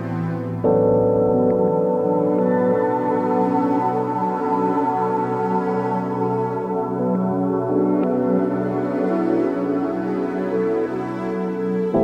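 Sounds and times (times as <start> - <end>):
ambient electronic keyboard chords: 0.0 - 12.0.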